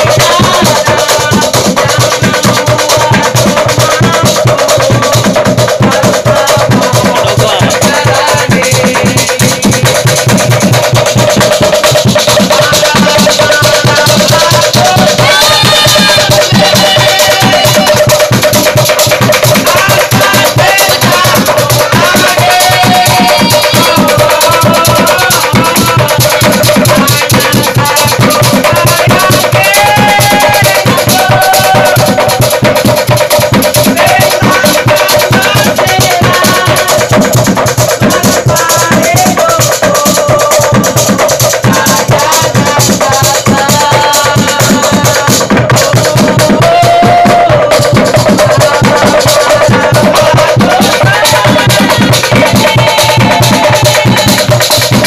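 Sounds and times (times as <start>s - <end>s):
hand drum beat: 0.0s - 55.0s
rattling percussion: 0.0s - 55.0s
young men singing and chanting: 0.0s - 55.0s.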